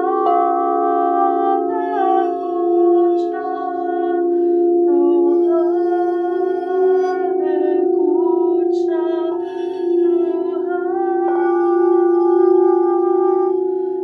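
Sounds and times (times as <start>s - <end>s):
singing bowls ringing: 0.0s - 14.0s.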